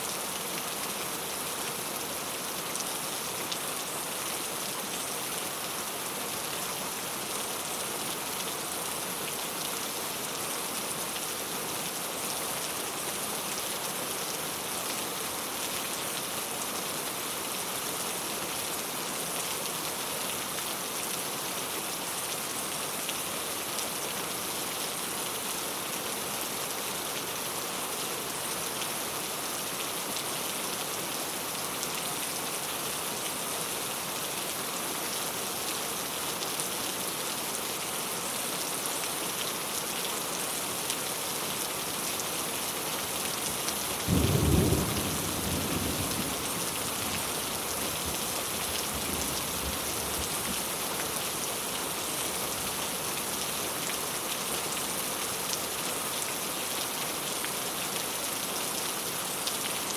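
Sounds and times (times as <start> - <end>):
rain on a tile roof: 0.0 - 59.9.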